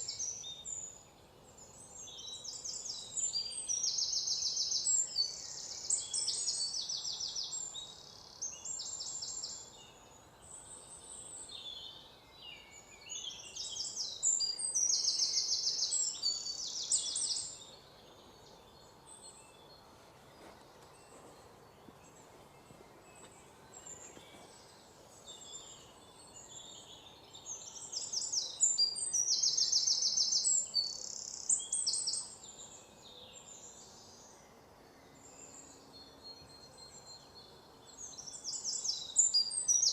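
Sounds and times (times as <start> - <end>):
bird calls and chirps: 0.0 - 39.9.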